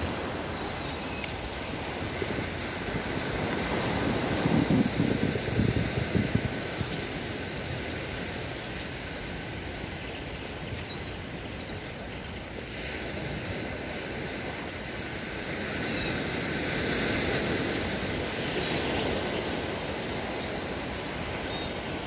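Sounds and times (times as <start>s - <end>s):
surf washing onto beach: 0.0s - 22.0s.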